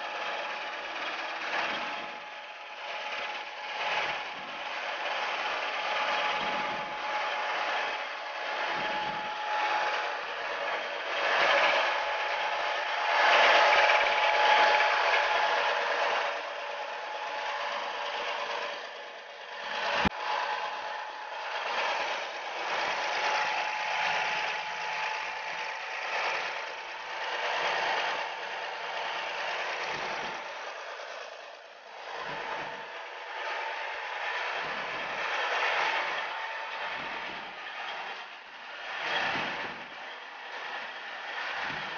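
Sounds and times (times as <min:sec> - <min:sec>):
diesel engine running: 0:00.0 - 0:41.9
faint steady whine: 0:00.0 - 0:41.9.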